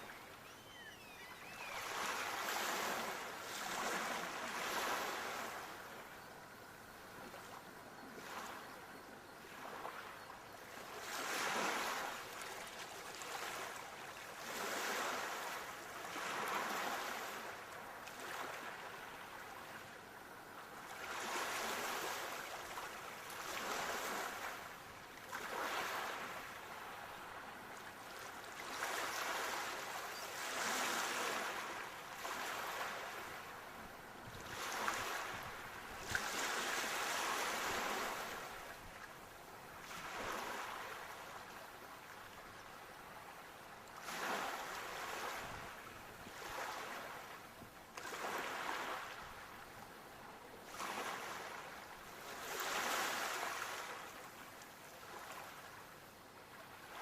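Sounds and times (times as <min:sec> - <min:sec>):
sea waves breaking on shore: 0:00.0 - 0:06.6, 0:10.8 - 0:19.8, 0:20.8 - 0:47.4, 0:48.0 - 0:49.8, 0:50.6 - 0:55.8.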